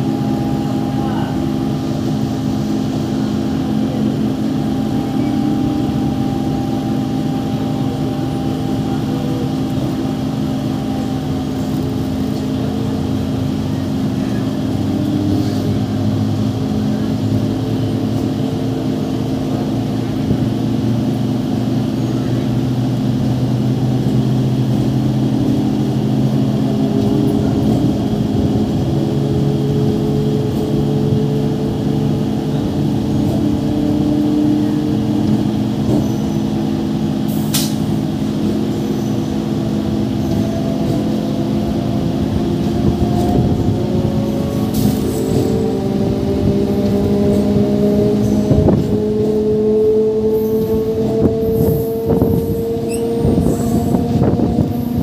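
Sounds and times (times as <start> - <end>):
train motors humming: 0.0 - 55.0.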